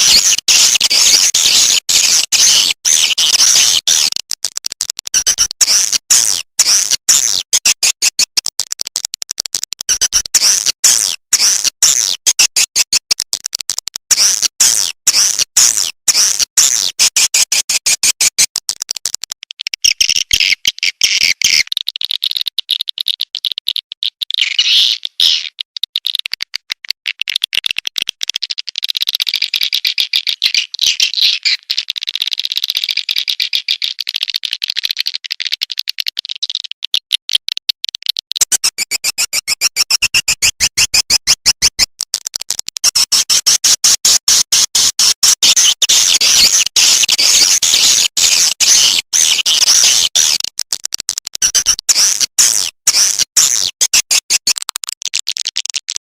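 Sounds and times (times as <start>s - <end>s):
swiftlet clicking twitters: 0.0s - 24.4s, 31.4s - 56.0s.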